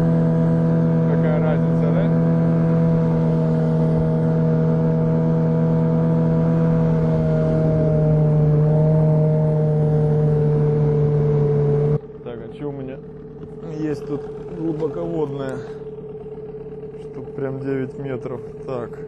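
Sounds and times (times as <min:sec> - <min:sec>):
boat motor drone: 0:00.0 - 0:19.0.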